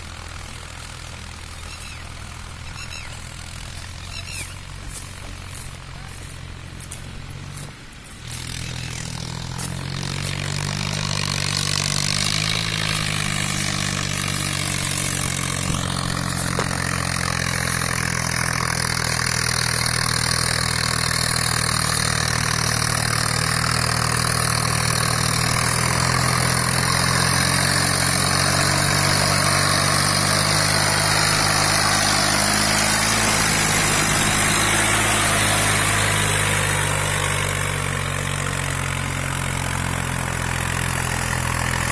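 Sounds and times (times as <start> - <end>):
tractor engine running under load: 0.0 - 41.9.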